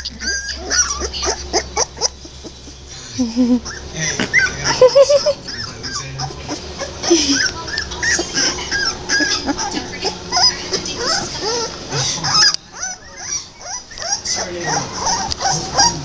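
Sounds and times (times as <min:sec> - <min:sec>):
puppies whimpering and squeaking: 0:00.0 - 0:16.0.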